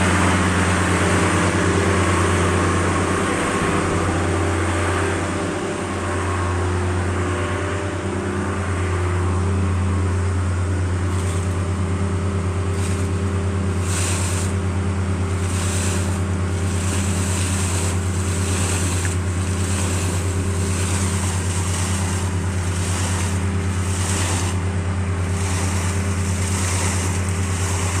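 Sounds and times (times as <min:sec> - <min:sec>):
air and water gushing: 0:00.0 - 0:07.0, 0:10.8 - 0:28.0
air compressor engine running: 0:00.0 - 0:28.0.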